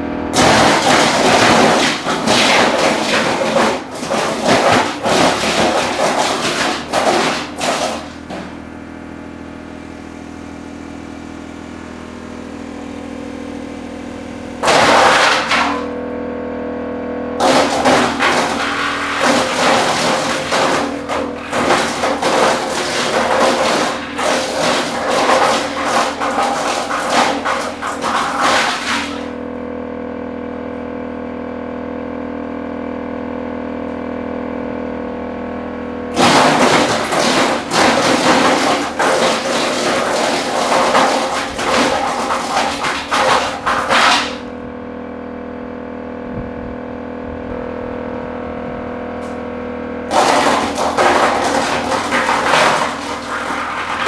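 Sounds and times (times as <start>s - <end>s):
wood chipper grinding wood: 0.0s - 46.2s, 46.9s - 54.0s
wood chipper engine running: 0.0s - 54.0s.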